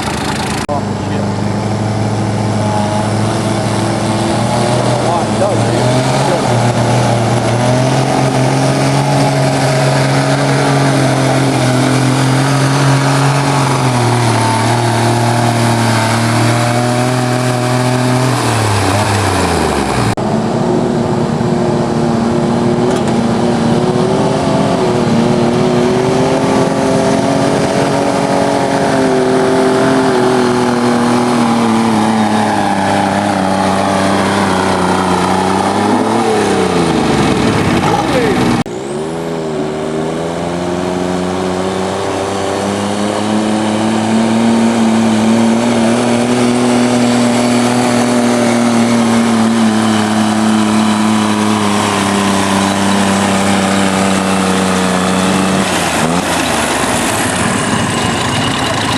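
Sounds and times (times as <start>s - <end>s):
diesel tractor engine under load: 0.0s - 58.9s.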